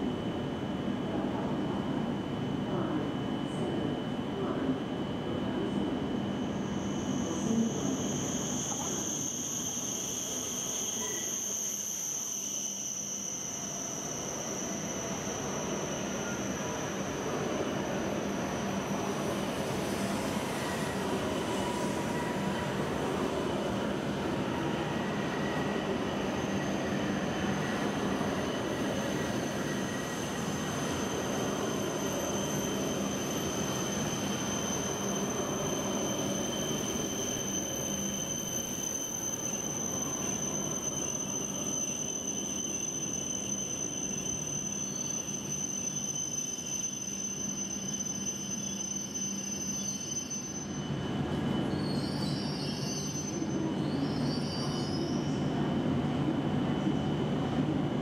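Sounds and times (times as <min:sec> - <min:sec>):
thin high whine: 0:06.4 - 0:55.4
train running noise: 0:06.5 - 0:58.0.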